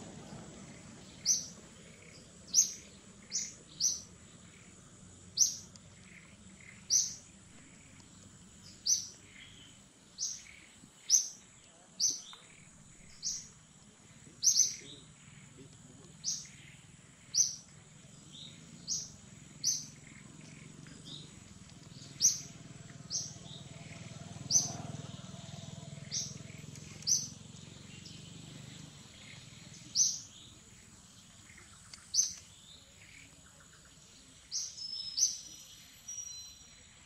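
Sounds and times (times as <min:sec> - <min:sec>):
bird chirping: 0:00.0 - 0:37.0.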